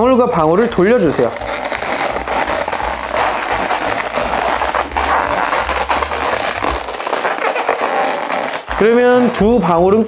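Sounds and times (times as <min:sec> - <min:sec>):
balloons rubbing and crackling: 0:00.0 - 0:10.0.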